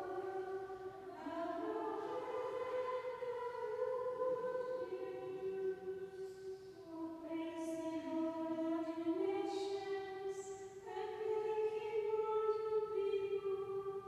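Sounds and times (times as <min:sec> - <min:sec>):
women's choir chanting in unison: 0:00.0 - 0:14.0.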